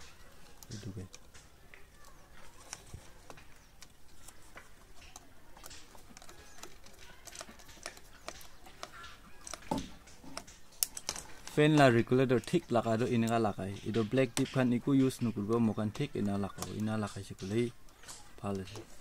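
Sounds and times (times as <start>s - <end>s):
wires being handled: 0.0s - 19.0s.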